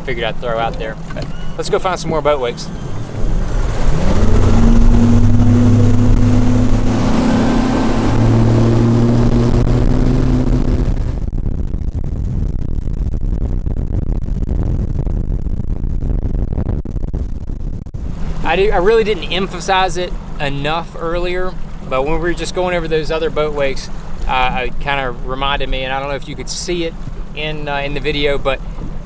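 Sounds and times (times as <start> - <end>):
steady rushing noise: 0.0 - 29.0
outboard motor accelerating: 0.1 - 12.6, 16.8 - 29.0.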